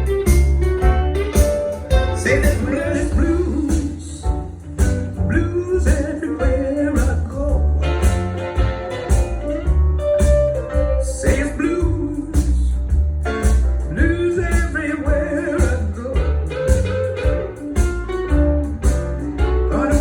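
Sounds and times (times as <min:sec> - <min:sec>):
song with vocals and band: 0:00.0 - 0:20.0.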